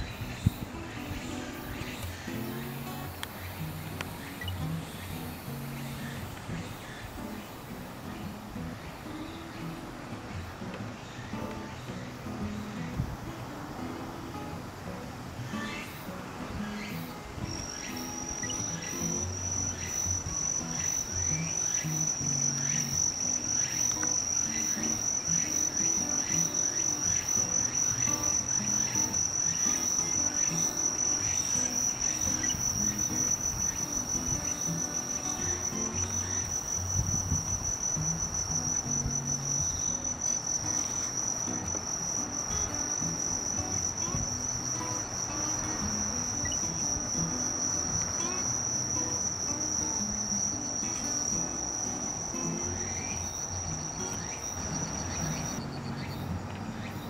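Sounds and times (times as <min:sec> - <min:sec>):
insect trilling: 0:00.0 - 0:09.4, 0:15.5 - 0:57.0.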